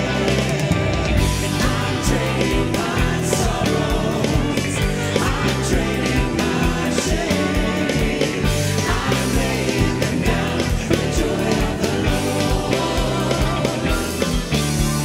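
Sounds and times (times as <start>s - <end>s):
person singing: 0.0s - 15.0s
rock band playing: 0.0s - 15.0s
steady drum beat: 0.0s - 15.0s.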